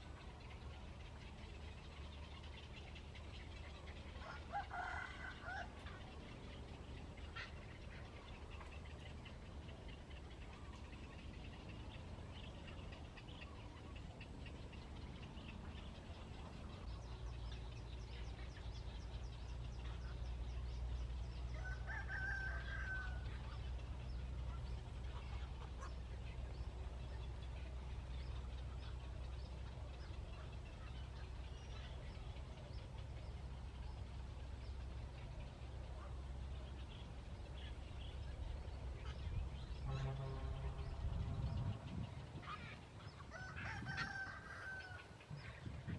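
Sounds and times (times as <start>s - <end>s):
faint bird calls: 0.0s - 45.9s
low steady rumble: 0.0s - 45.9s.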